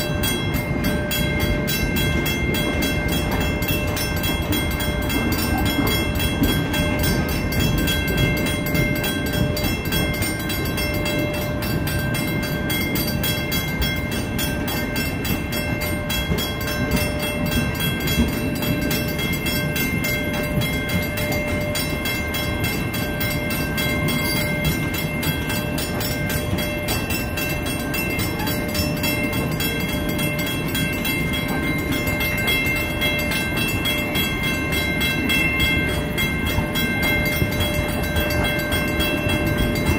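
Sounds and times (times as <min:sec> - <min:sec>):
crossing warning bell ringing: 0:00.0 - 0:39.9
steel wheels rumbling on rail: 0:00.0 - 0:39.9.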